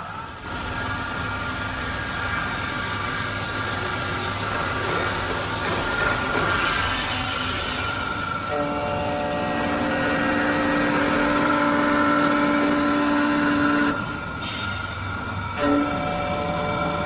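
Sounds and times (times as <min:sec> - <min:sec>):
high-pitched machine whine: 0:00.0 - 0:17.0
wood lathe machining: 0:00.5 - 0:14.5.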